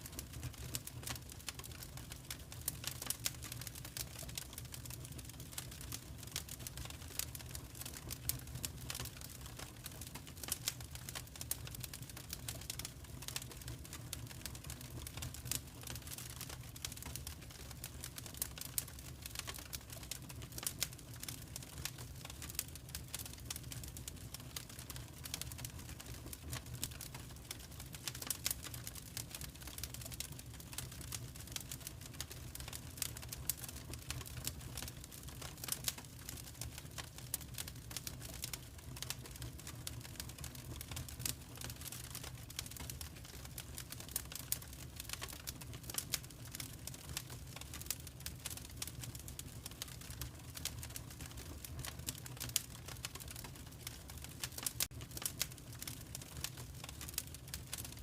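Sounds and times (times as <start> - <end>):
low rumble of burning: 0.0 - 58.0
wood fire crackling and popping: 0.0 - 58.0.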